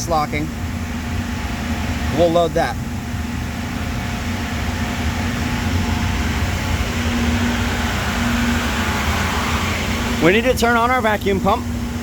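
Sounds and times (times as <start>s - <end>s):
workshop machinery humming: 0.0s - 12.0s.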